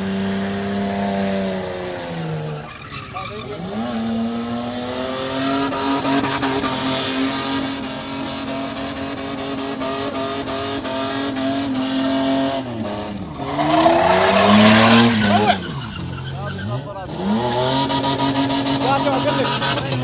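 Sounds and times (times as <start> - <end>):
engine revving high: 0.0 - 20.0.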